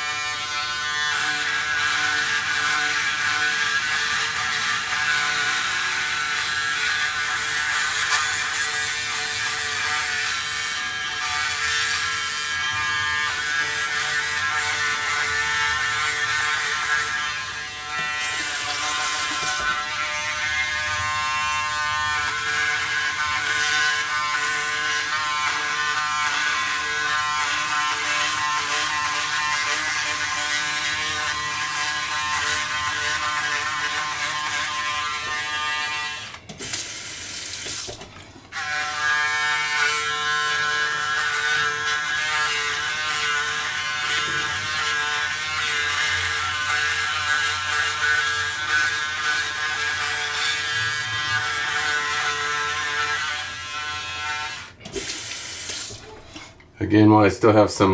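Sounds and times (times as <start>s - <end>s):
electric shaver buzzing: 0.0s - 56.4s.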